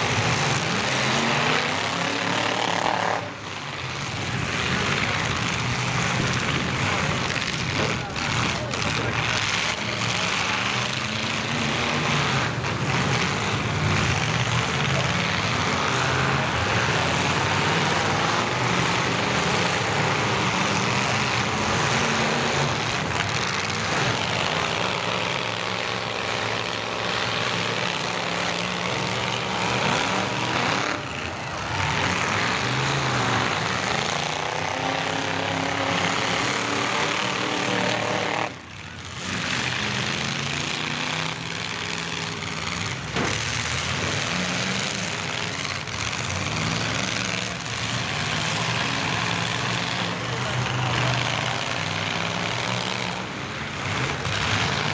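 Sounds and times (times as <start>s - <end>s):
truck engines revving: 0.0s - 54.9s.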